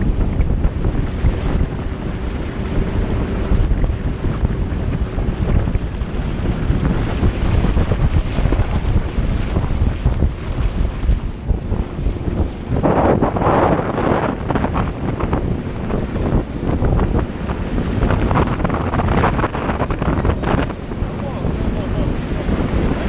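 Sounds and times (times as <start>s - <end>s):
low rumble: 0.0s - 23.0s
wind buffeting microphone: 0.0s - 23.0s.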